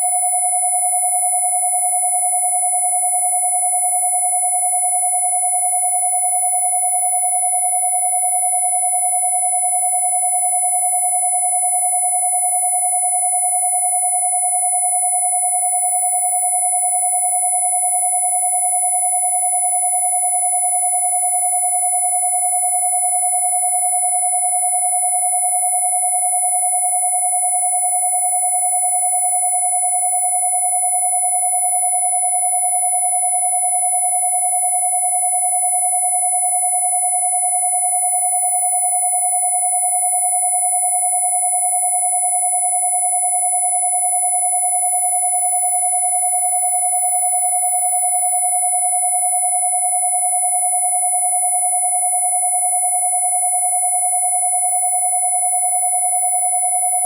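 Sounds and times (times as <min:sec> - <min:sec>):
high-pitched sine tone: 0:00.0 - 0:57.0
steady electronic sine tone: 0:00.0 - 0:57.0.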